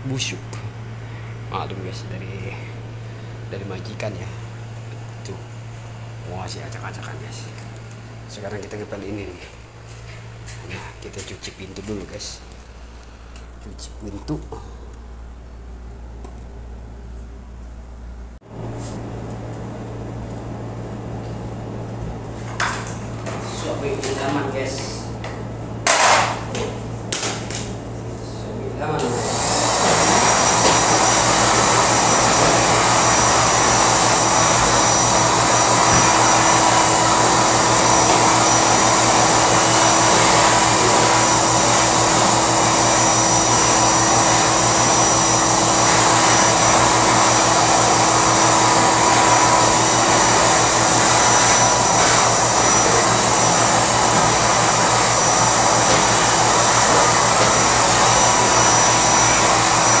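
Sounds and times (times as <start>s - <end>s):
vacuum cleaner running: 0.0s - 13.3s, 18.4s - 60.0s.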